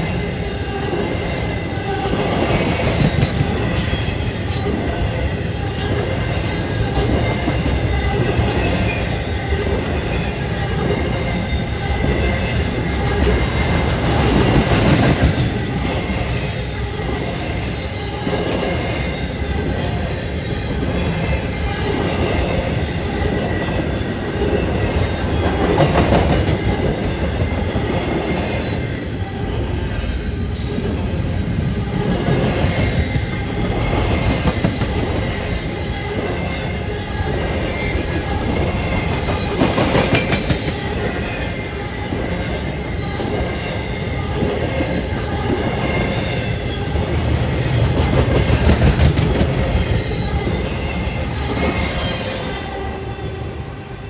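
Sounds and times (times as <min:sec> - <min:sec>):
train railcars rumbling: 0:00.0 - 0:54.0.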